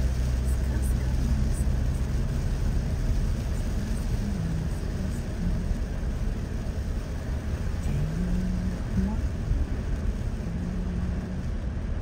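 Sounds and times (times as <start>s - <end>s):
car interior rumble: 0.0s - 12.0s
tyres hissing on wet road: 0.0s - 12.0s.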